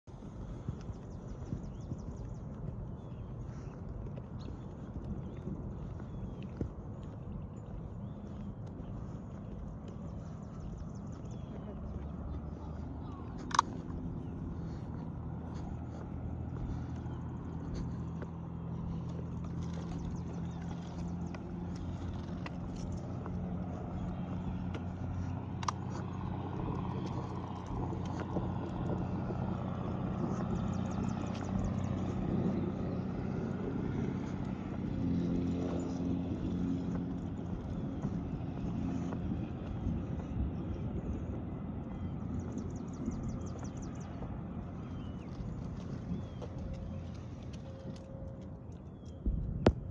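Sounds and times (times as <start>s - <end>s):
car engine humming: 0.1s - 49.9s.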